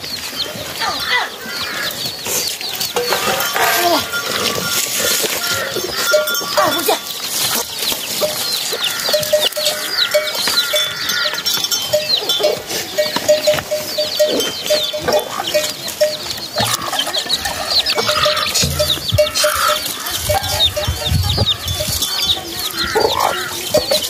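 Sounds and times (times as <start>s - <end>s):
chicks peeping: 0.0s - 24.0s
hen clucking: 0.5s - 24.0s.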